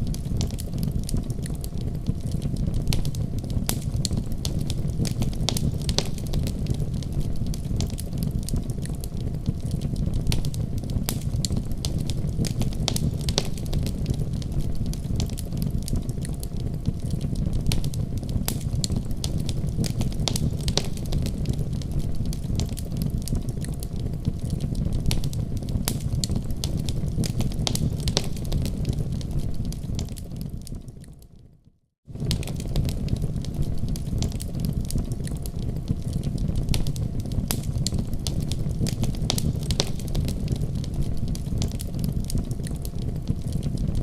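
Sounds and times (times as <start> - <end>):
wood fire crackling: 0.0 - 31.5, 32.1 - 44.0.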